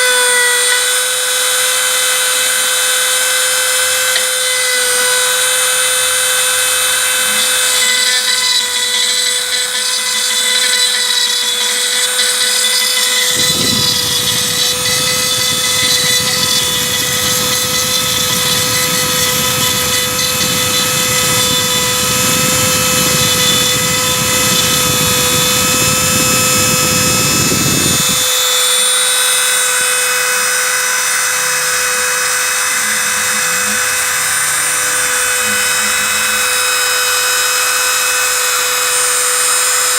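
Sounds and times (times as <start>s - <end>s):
rough cutting noise: 0.0s - 39.9s
router spindle whining: 0.0s - 39.9s.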